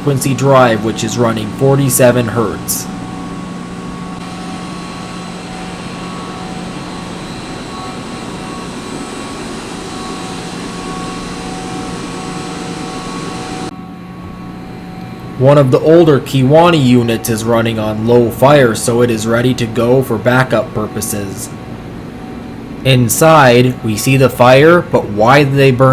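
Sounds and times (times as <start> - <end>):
boiler burner and fan roar: 0.0 - 25.9
steady whining tones: 0.0 - 25.9.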